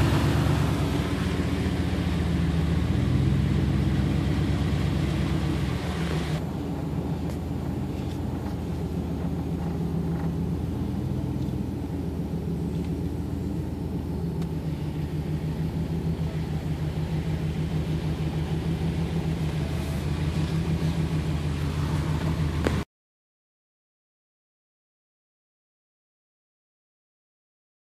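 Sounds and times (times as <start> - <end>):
vehicle engine humming: 0.0 - 22.9.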